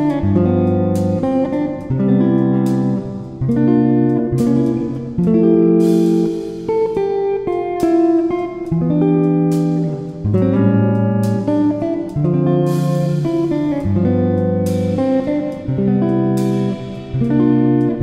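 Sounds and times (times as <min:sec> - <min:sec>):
background instrumental music: 0:00.0 - 0:18.0.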